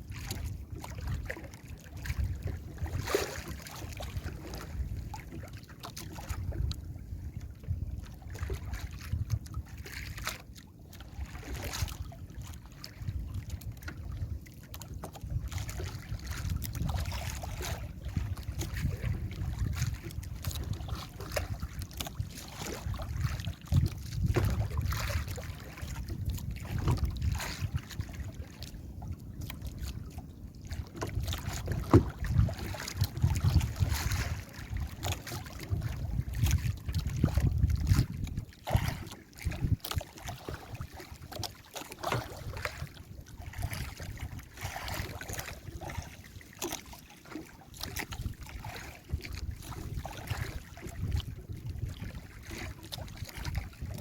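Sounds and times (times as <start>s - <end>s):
wind buffeting microphone: 0.0s - 10.4s, 11.3s - 41.5s, 47.8s - 54.0s
waves slapping against boat: 0.0s - 54.0s.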